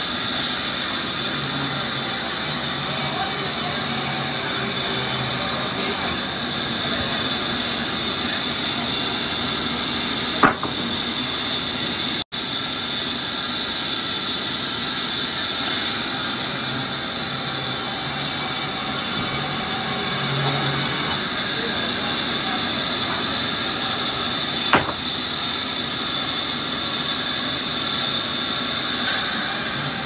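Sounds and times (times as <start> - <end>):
band saw cutting wood: 0.0 - 12.2, 13.3 - 30.0.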